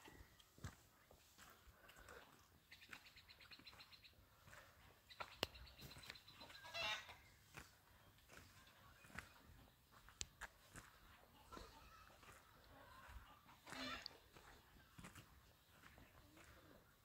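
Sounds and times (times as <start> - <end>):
chickens clucking: 1.5 - 17.0.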